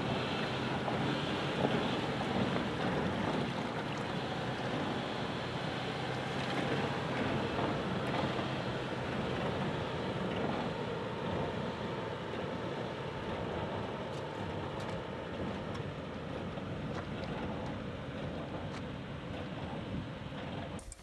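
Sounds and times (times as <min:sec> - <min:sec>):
suv engine droning: 0:00.0 - 0:20.9.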